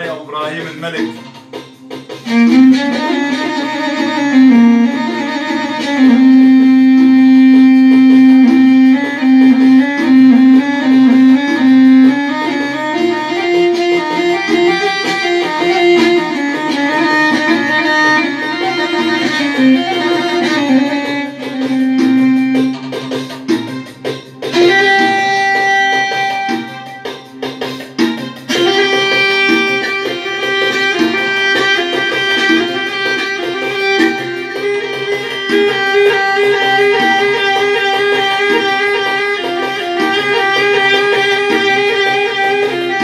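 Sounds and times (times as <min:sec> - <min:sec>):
electronic keyboard melody: 0:00.0 - 0:43.0.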